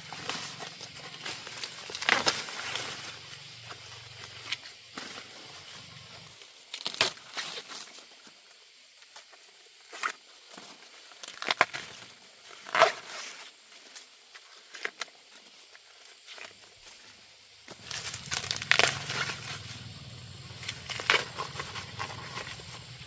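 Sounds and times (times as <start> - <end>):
dry plants crackling and rustling: 0.0 - 23.0.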